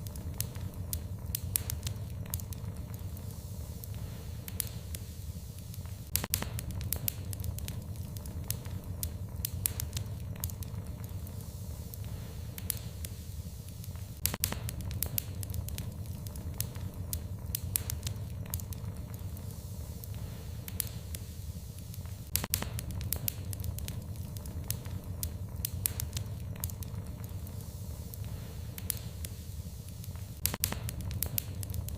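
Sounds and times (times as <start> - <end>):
low steady rumble: 0.0 - 31.9
wood fire crackling: 0.0 - 31.9.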